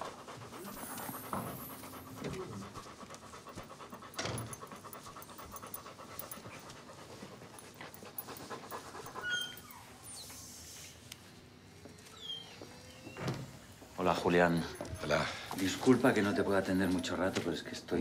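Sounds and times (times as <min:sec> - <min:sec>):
dog panting: 0:00.0 - 0:10.1, 0:12.6 - 0:17.9.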